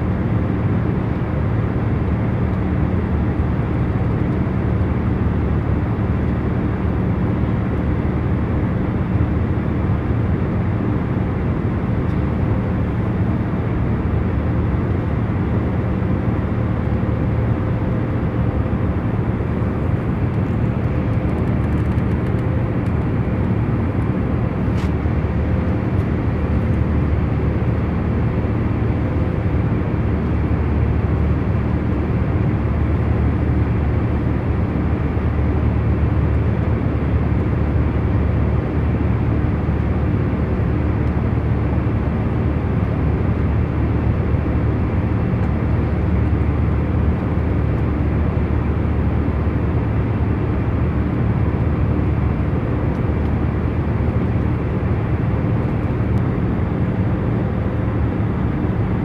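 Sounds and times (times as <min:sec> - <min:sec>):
airliner cabin engine hum: 0:00.0 - 0:59.0.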